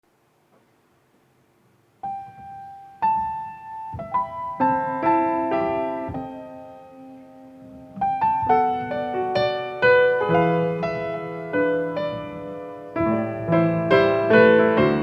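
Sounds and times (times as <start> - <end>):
piano playing: 2.0 - 15.0.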